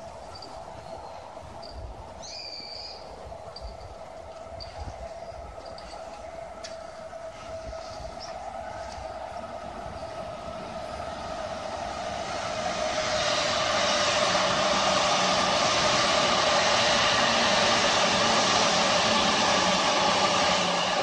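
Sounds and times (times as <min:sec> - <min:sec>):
electric trains passing: 0:00.0 - 0:21.0
steady train whine: 0:00.0 - 0:21.0
wheels rushing on rail: 0:00.0 - 0:21.0.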